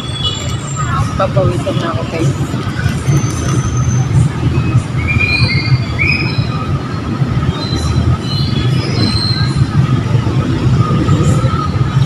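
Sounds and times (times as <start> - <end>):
steady low rumble: 1.1 - 12.0.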